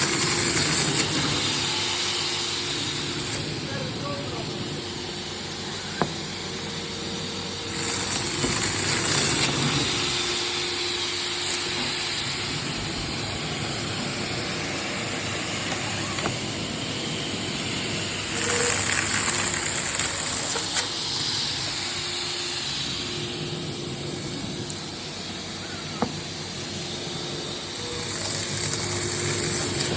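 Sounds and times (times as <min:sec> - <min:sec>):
wood-cutting machine running: 0:00.0 - 0:29.9.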